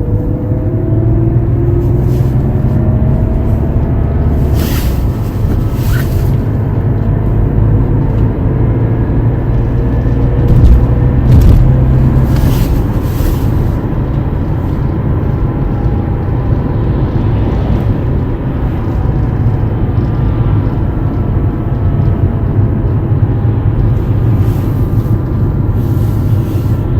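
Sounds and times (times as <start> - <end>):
car road rumble: 0.0 - 26.9.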